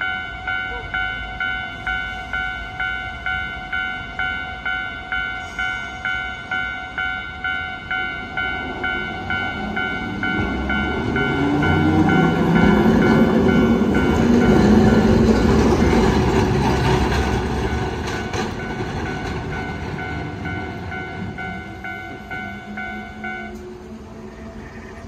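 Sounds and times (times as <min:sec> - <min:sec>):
level crossing alarm dinging: 0:00.0 - 0:23.8
tram traction motors whining: 0:00.0 - 0:25.0.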